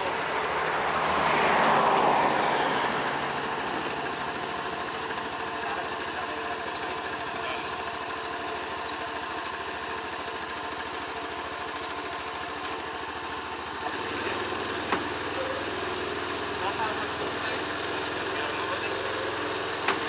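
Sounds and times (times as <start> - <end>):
utility vehicle engine idling: 0.0 - 20.0.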